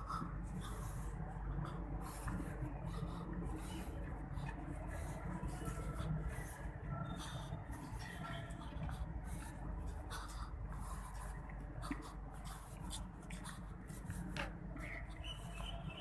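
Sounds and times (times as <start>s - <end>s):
footsteps on a path: 0.0s - 16.0s.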